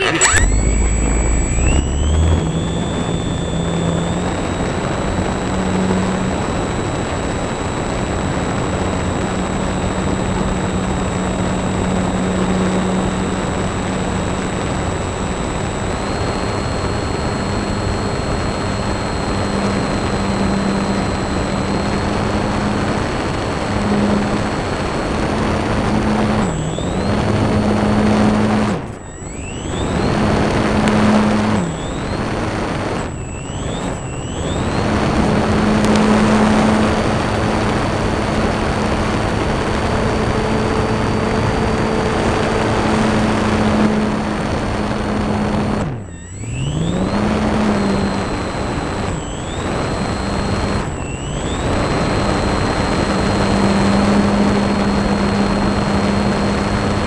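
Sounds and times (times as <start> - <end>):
model aircraft motor whining: 0.0 - 57.0.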